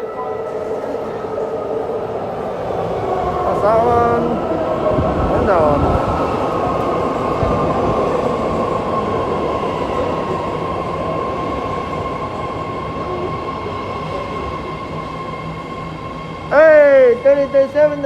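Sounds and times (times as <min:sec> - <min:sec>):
train high whine: 0:00.0 - 0:18.0.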